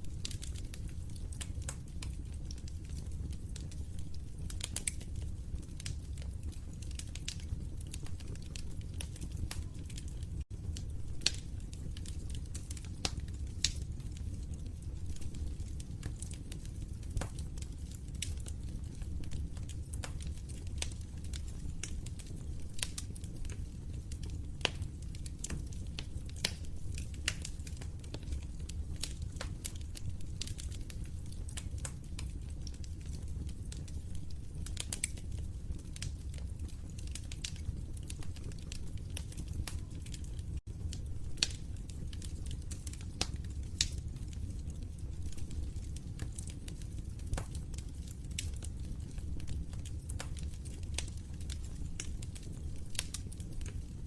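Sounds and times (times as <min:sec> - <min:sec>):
fire crackling: 0:00.0 - 0:54.0.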